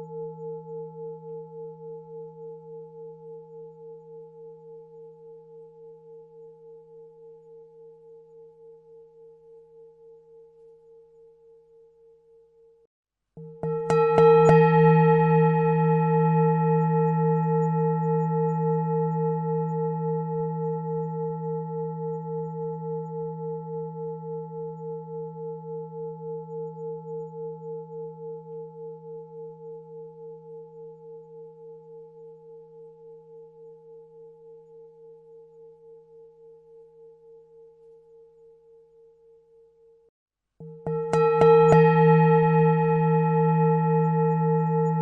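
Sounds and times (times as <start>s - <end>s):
singing bowl ringing: 0.0s - 45.0s.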